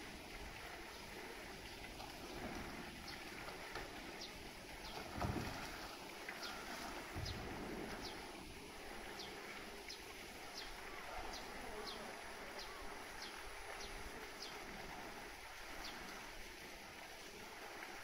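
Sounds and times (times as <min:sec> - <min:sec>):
pool water wash: 0:00.0 - 0:18.0.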